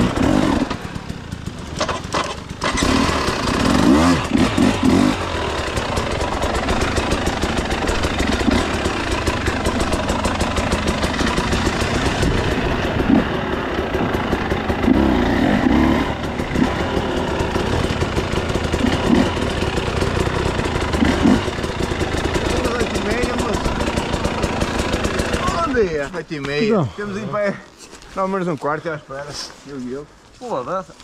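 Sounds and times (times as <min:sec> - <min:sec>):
two-stroke engine idling: 0:00.0 - 0:27.5.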